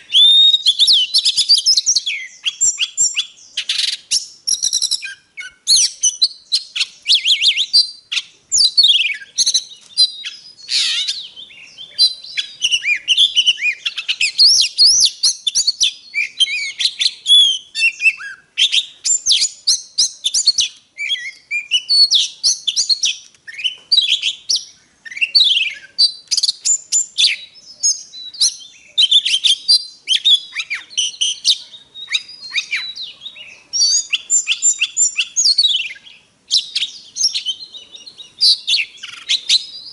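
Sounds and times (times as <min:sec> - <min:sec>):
songbird singing whistles: 0:00.0 - 0:39.9.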